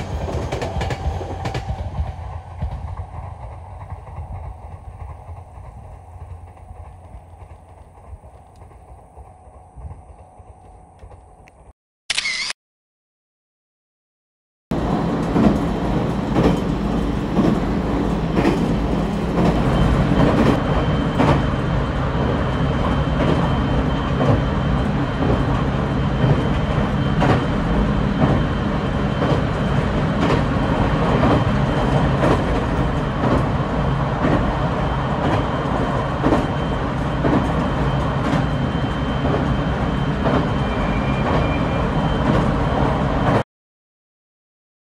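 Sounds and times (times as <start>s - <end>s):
train running on rails: 0.0s - 12.4s, 14.7s - 43.4s.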